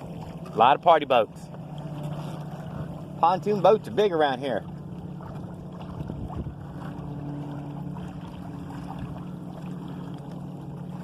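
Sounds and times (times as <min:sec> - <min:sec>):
motorboat engine drone: 0:00.0 - 0:11.0
water splashing along hull: 0:00.0 - 0:11.0.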